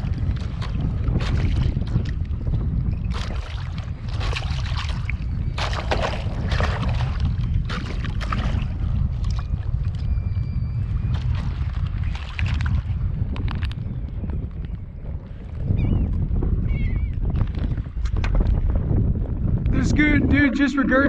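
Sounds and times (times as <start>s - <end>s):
water noise: 0.0s - 21.0s
wind buffeting microphone: 0.0s - 21.0s.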